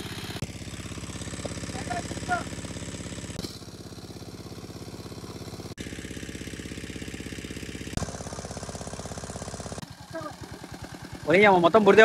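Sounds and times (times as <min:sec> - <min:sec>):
water pump engine chugging: 0:00.0 - 0:12.0.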